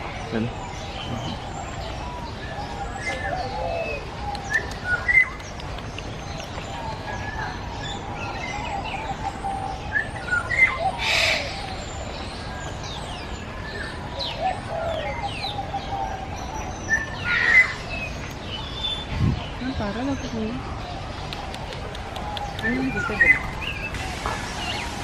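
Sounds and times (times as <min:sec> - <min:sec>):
birds chirping and whistling: 0:00.0 - 0:25.0.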